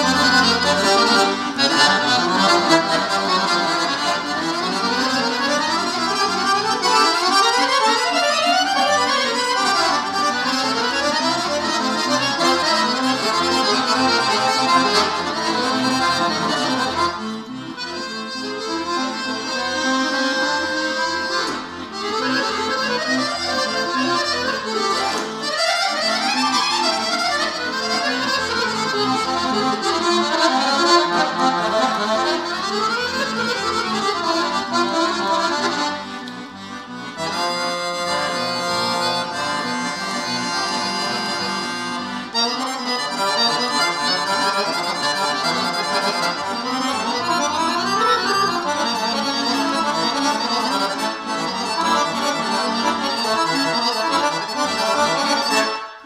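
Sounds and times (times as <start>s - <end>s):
piano accordion playing: 0.0s - 56.0s.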